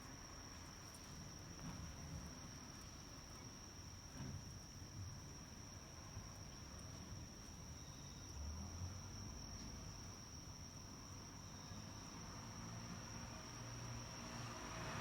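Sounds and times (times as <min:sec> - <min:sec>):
crickets trilling: 0:00.2 - 0:15.0.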